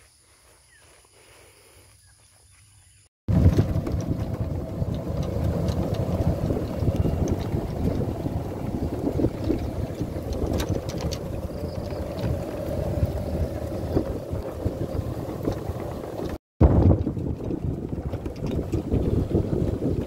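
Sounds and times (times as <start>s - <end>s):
golf cart rumbling: 3.3s - 20.0s
wind buffeting microphone: 3.3s - 20.0s.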